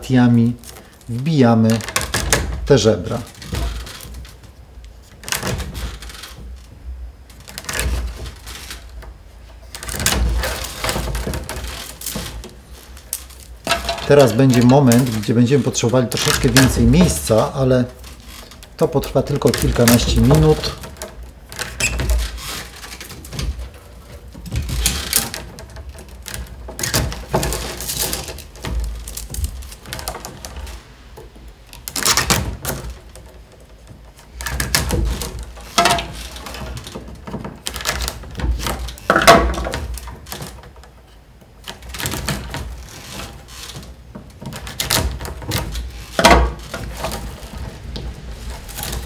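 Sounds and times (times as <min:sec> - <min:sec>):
wicker clicking and creaking: 0:00.0 - 0:49.0.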